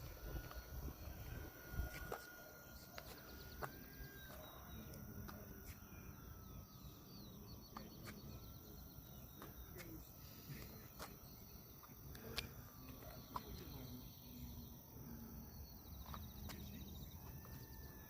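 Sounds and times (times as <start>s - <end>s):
bird chirps: 0.0s - 18.0s
distant electric motor whine: 0.0s - 18.0s.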